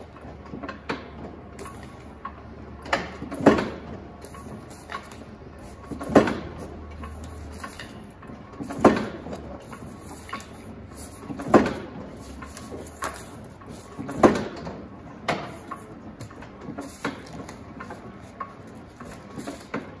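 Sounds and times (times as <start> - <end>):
mechanism clicks and knocks: 0.0 - 20.0
printing press clacking: 0.0 - 20.0.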